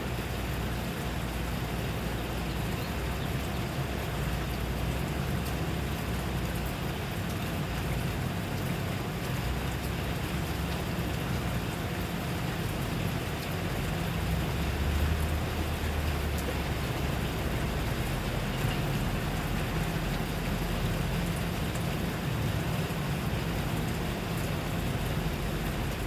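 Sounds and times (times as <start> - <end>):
rain hiss: 0.0 - 26.0
rain drop ticks: 0.2 - 26.0.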